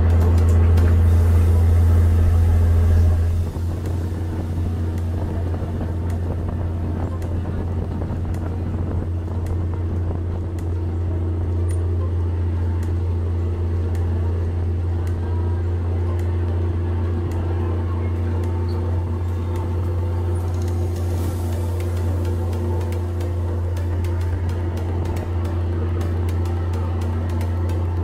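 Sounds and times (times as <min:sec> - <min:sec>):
motor boat engine droning: 0:00.0 - 0:28.0.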